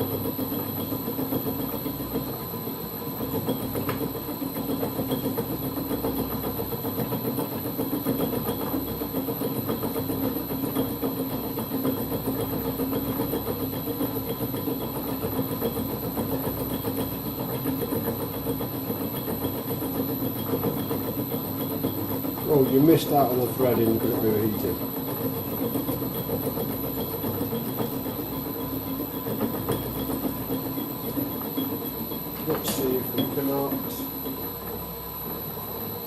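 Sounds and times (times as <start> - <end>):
lathe gear train humming: 0.0 - 36.0.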